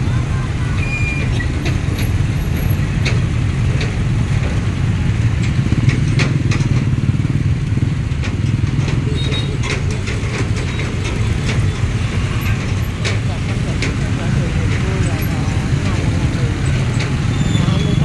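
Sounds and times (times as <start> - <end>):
motorbike engines idling: 0.0 - 18.0.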